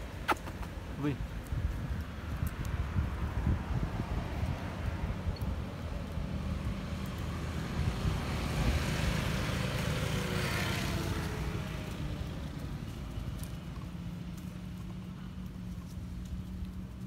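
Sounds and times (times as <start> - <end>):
motorbike passing: 0.1 - 17.0.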